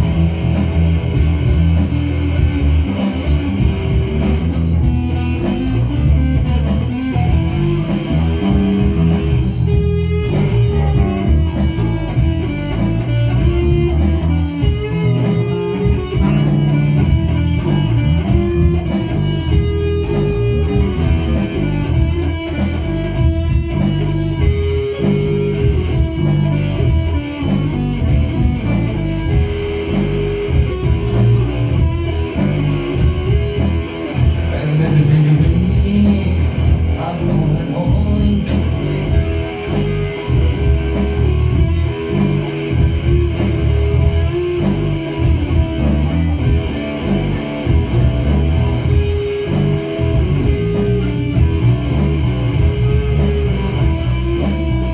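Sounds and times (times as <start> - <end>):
bass guitar: 0.0 - 54.9
electric guitar: 0.0 - 54.9.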